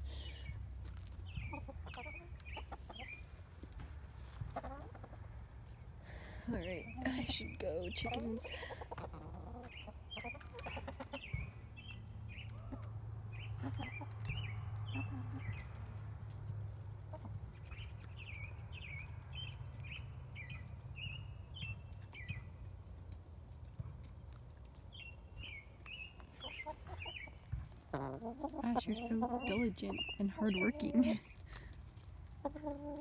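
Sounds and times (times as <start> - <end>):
hens clucking: 0.0 - 20.0, 21.9 - 33.0.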